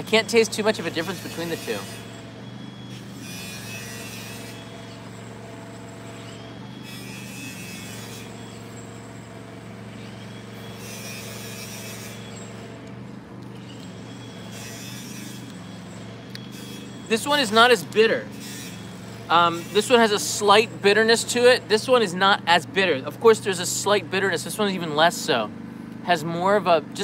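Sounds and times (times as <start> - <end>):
idling engine hum: 0.0 - 27.0.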